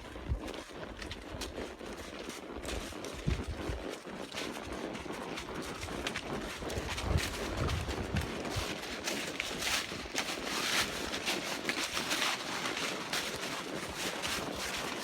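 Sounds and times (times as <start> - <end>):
horse hooves on dirt: 0.0 - 15.0.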